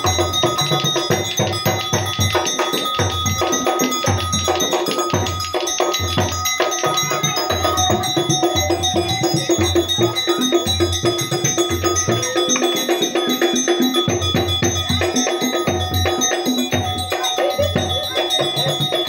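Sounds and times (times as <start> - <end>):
metal gong-chime notes: 0.0 - 19.0
steady drum beat: 0.0 - 19.0.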